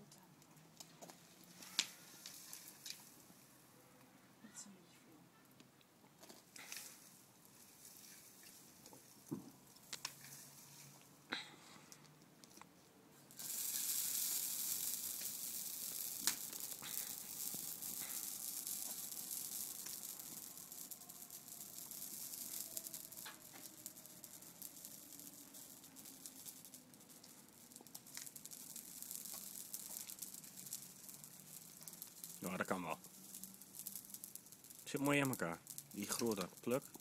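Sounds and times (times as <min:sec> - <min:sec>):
fire crackling and hissing: 0:00.0 - 0:04.6, 0:05.3 - 0:37.0.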